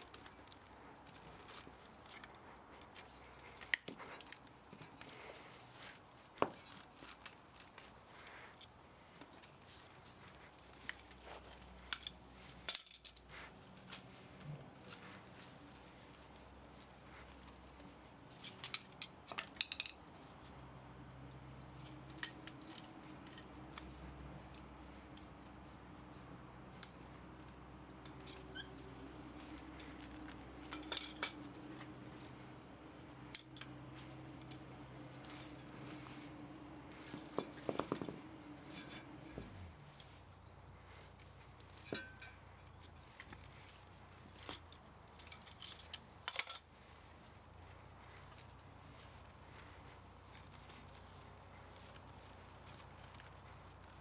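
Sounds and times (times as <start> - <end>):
hand tools clicking and snipping: 0.0 - 54.0
small metallic clinks: 9.4 - 54.0.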